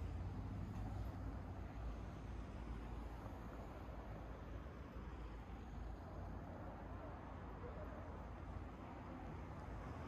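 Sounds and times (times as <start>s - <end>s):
distant traffic hum: 0.0s - 10.0s.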